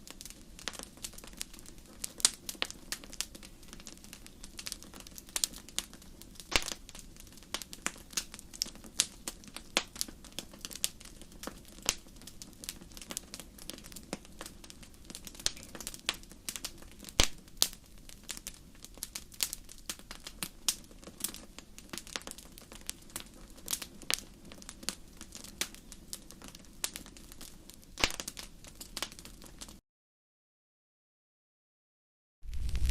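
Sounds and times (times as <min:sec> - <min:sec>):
wood fire crackling: 0:00.0 - 0:29.8, 0:32.4 - 0:32.9.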